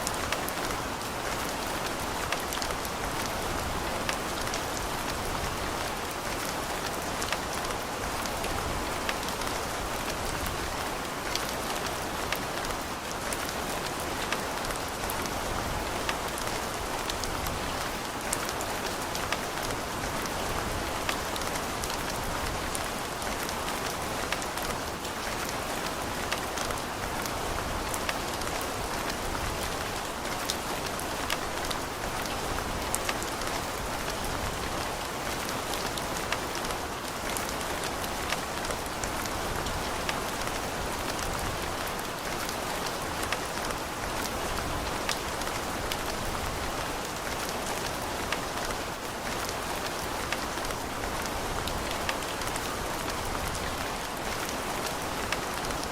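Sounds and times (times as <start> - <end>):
rain falling with drop taps: 0.0 - 55.9.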